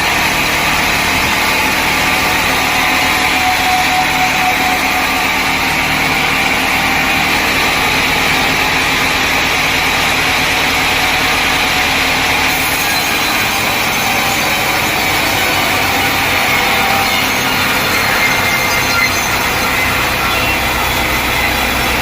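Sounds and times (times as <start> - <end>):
sawmill machinery drone: 0.0 - 22.0.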